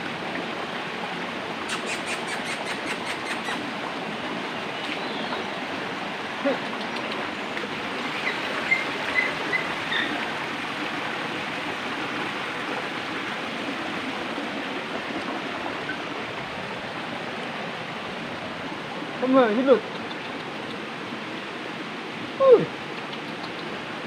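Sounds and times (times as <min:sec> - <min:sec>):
mountain stream over boulders: 0:00.0 - 0:24.0.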